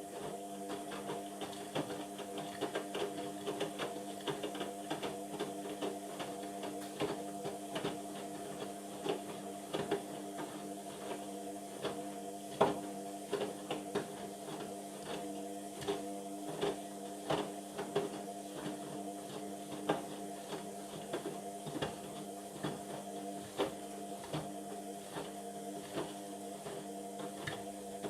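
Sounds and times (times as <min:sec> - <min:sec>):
washing machine motor humming: 0:00.0 - 0:28.0.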